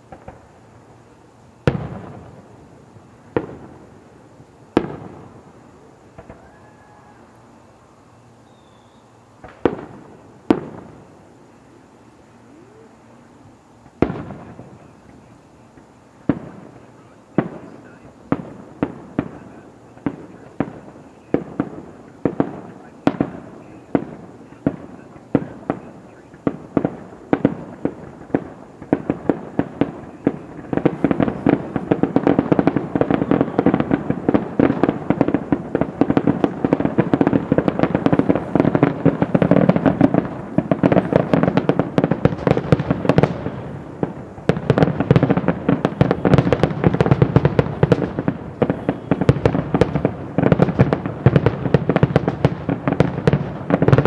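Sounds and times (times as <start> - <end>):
aerial fireworks exploding: 0.0 - 7.6, 8.4 - 54.0.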